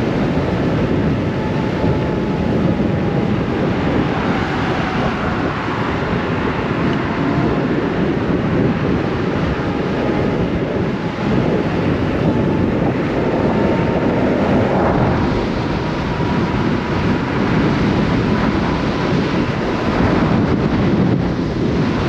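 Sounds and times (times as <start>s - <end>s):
tyre and road noise: 0.0s - 22.0s
wind buffeting microphone: 0.0s - 22.0s.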